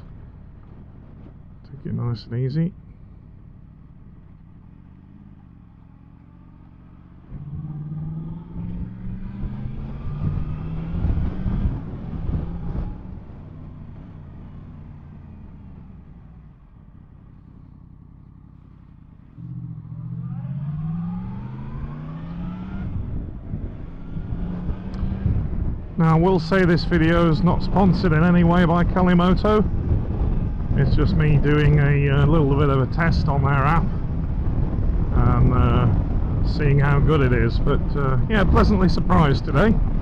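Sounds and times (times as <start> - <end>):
motorcycle engine revving: 2.8 - 40.0.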